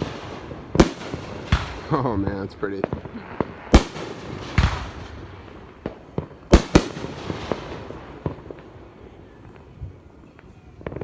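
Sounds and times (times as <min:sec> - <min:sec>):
fireworks booming: 0:00.0 - 0:10.0
fireworks popping and crackling: 0:00.0 - 0:11.0.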